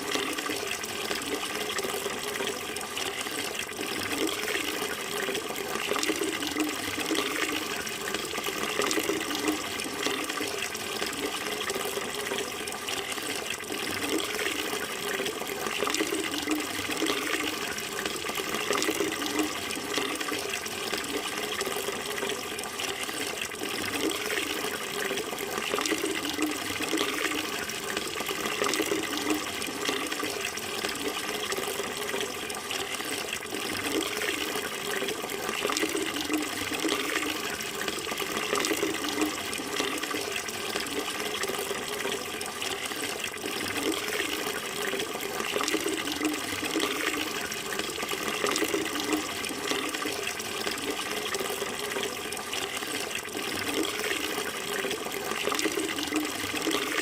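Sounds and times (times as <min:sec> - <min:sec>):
water flowing and splashing: 0:00.0 - 0:57.0.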